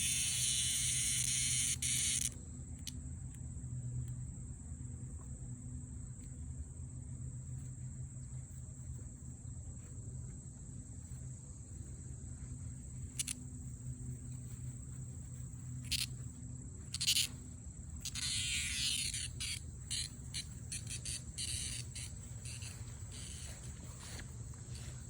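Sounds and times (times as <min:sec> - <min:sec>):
cicadas droning: 0:00.0 - 0:25.0
low steady hum: 0:00.0 - 0:25.0.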